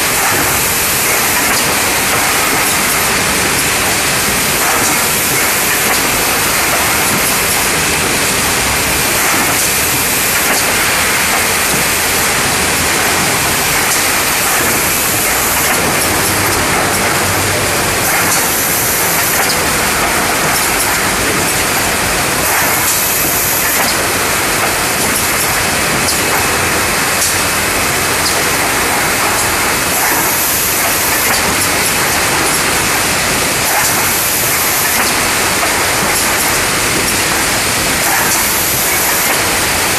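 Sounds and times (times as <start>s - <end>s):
packing machine running: 0.0s - 39.9s.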